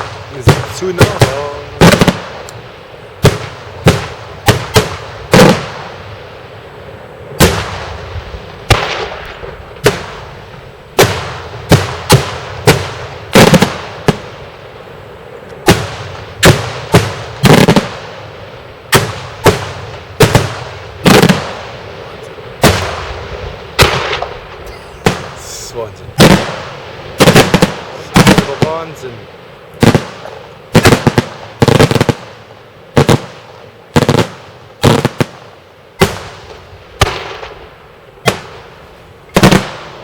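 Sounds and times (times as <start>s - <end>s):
fireworks bursting with echo: 0.0s - 40.0s.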